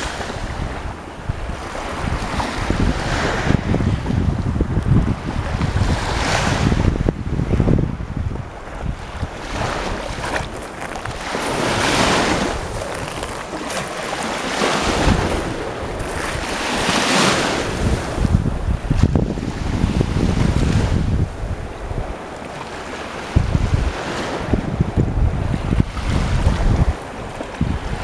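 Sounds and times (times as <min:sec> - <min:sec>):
sea waves breaking: 0:00.0 - 0:28.0
wind buffeting microphone: 0:00.0 - 0:28.0.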